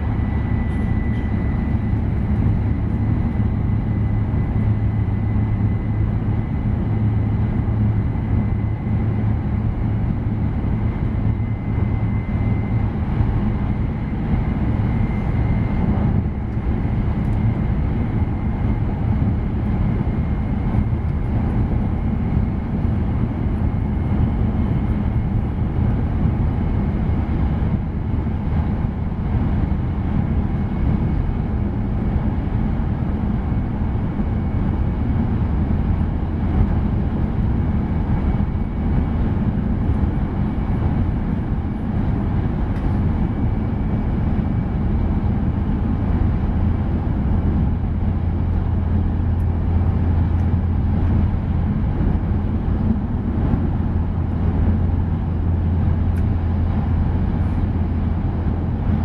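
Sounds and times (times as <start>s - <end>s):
train rumble in passenger cabin: 0.0s - 59.0s.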